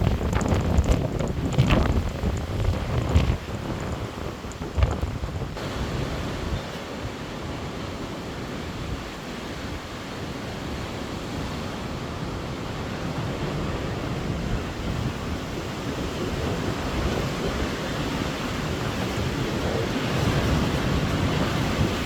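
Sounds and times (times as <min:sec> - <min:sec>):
storm wind blowing: 0:00.0 - 0:22.0
wind gusting on microphone: 0:00.0 - 0:22.0.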